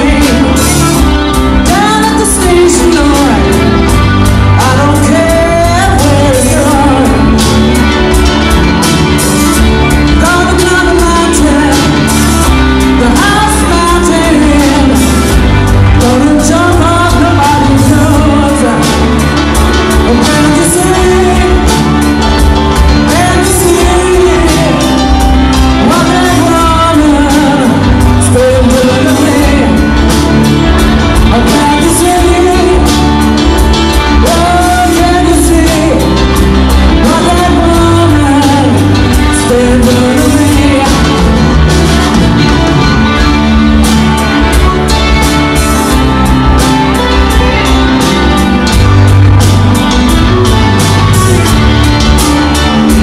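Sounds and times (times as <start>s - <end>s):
electric guitars: 0.0s - 53.0s
person singing: 0.0s - 53.0s.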